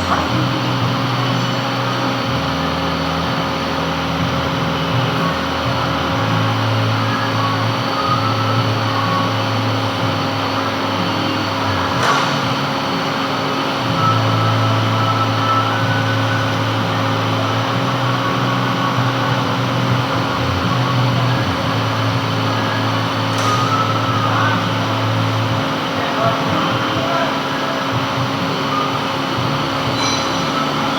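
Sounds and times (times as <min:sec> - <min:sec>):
metal lathe humming: 0:00.0 - 0:26.6, 0:27.2 - 0:30.9.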